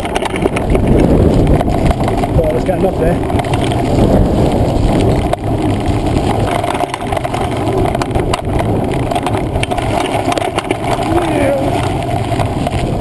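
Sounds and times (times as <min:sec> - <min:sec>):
bike clattering knocks: 0:00.0 - 0:12.9
tyres rumbling on dirt: 0:00.0 - 0:13.0.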